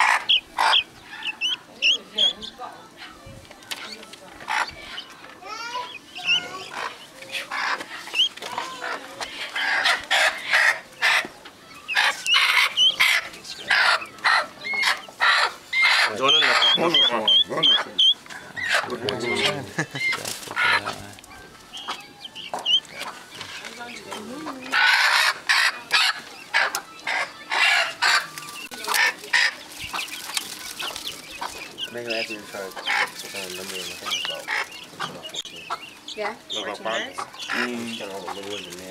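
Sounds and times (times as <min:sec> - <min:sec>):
chick peeps: 0:00.0 - 0:38.9
chickens squawking: 0:00.0 - 0:38.9.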